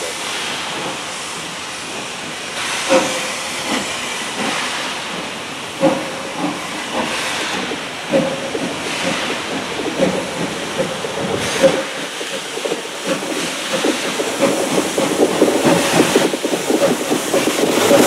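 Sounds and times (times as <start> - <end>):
steam hissing: 0.0 - 18.0.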